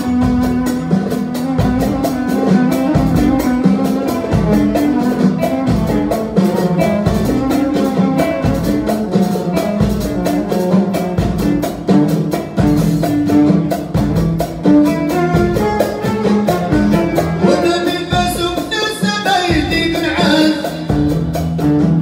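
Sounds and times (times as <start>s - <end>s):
violin melody: 0.0s - 12.0s, 14.5s - 20.4s
fast drum beat: 0.0s - 22.0s.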